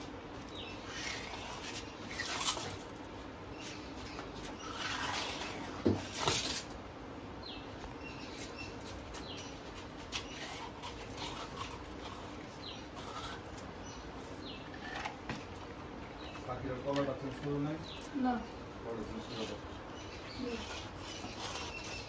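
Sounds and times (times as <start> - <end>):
faint steady background noise: 0.0 - 22.0.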